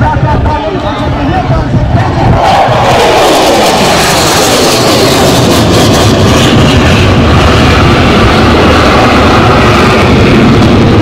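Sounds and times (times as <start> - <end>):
jet engine passing overhead: 0.0 - 11.0.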